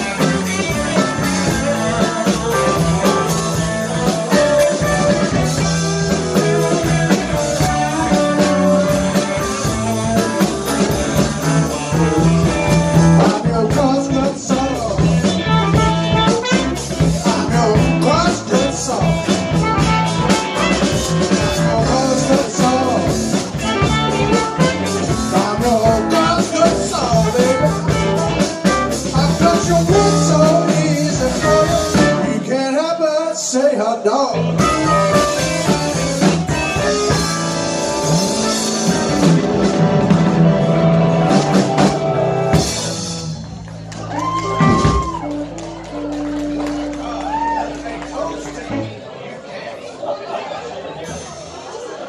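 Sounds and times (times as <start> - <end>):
live blues band playing: 0.0 - 49.4.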